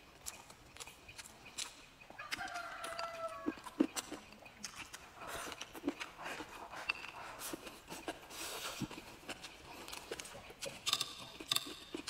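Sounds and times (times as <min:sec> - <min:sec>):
person chewing food: 0:00.1 - 0:12.0.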